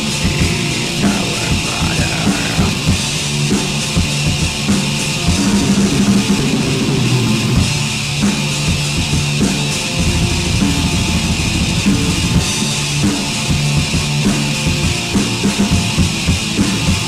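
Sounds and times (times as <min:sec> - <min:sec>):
distorted guitars: 0:00.0 - 0:17.0
fast dense drumming: 0:00.0 - 0:17.0.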